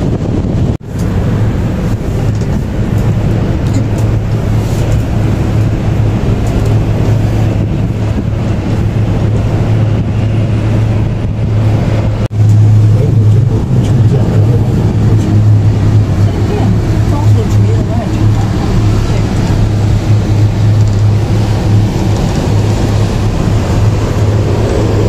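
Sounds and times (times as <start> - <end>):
vehicle rumble from inside: 0.0 - 25.0.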